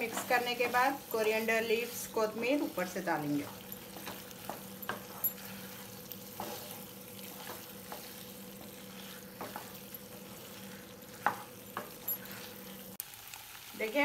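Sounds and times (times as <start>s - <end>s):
pasta sizzling in frying pan: 0.0s - 14.0s.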